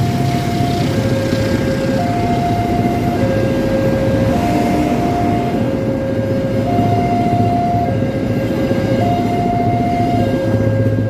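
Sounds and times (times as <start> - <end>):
train wheels on rails: 0.0 - 11.0
two-tone crossing alarm: 0.0 - 11.0.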